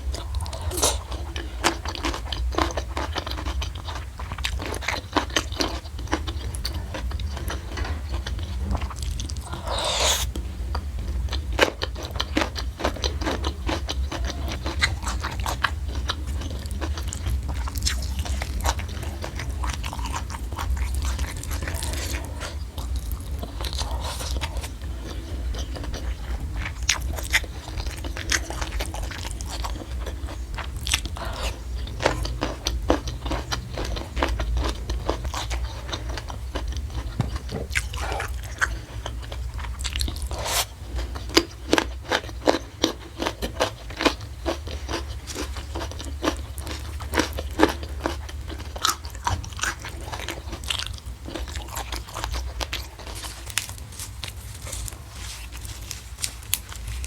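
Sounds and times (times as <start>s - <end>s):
person chewing crunchy food: 0.0s - 57.0s
steady low hum: 0.0s - 57.0s.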